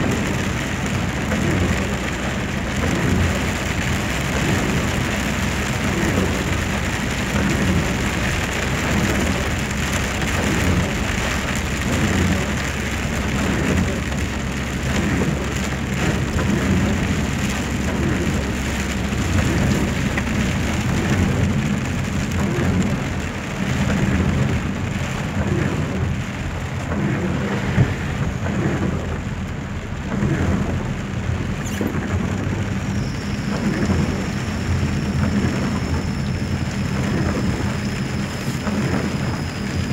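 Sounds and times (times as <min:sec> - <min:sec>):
heavy rain pouring: 0:00.0 - 0:39.9
low steady rumble: 0:00.0 - 0:39.9.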